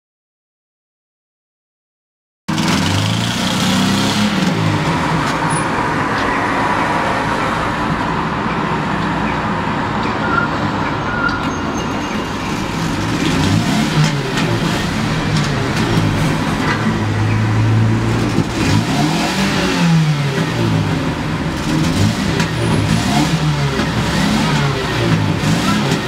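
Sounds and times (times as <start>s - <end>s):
passing vehicles rushing: 2.5s - 26.0s
vehicle engine: 2.5s - 26.0s.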